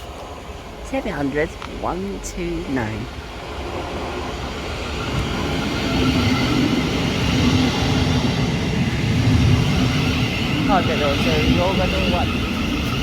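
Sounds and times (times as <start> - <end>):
electric train hum and whine: 0.0 - 13.0.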